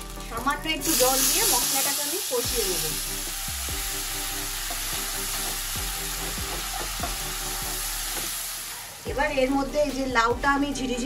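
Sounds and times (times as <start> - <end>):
spice paste sizzling in oil: 0.0 - 9.1.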